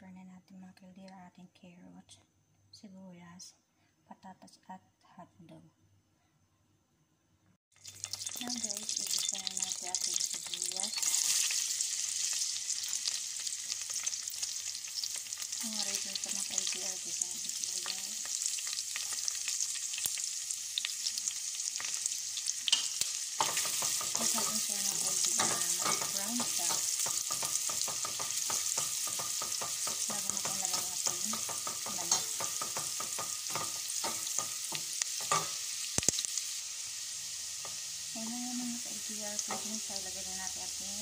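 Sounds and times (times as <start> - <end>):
onion sizzling in oil: 7.7 - 41.0.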